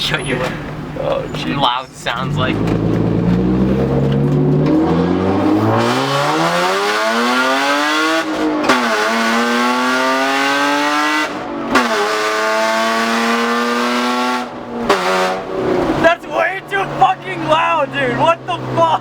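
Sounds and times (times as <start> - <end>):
loud car exhaust accelerating: 2.1 - 19.0.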